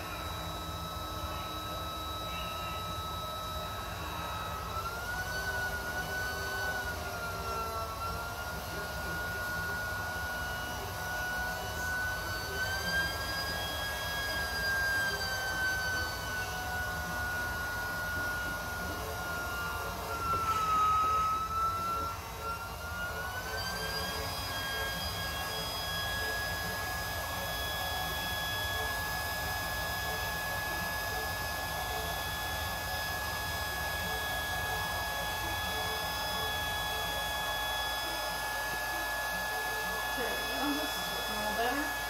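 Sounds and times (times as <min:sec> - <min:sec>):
air pump motor whine: 0:00.0 - 0:42.0.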